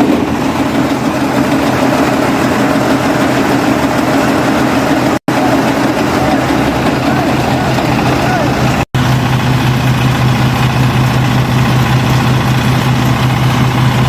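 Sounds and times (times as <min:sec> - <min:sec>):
combine harvester engine running: 0:00.0 - 0:14.0.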